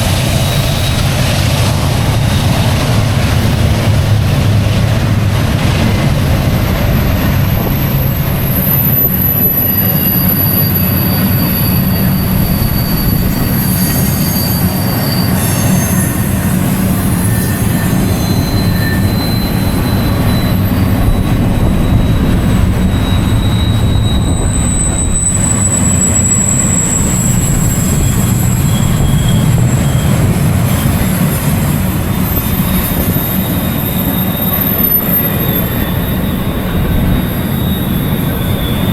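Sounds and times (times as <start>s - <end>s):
freight train rumbling: 0.0s - 38.9s
high-pitched wheel squeals: 0.1s - 1.2s, 6.5s - 38.9s.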